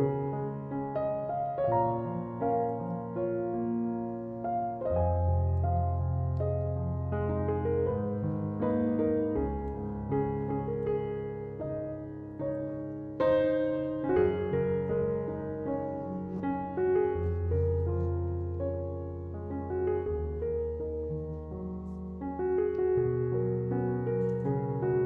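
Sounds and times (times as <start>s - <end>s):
slow piano music: 0.0s - 25.0s.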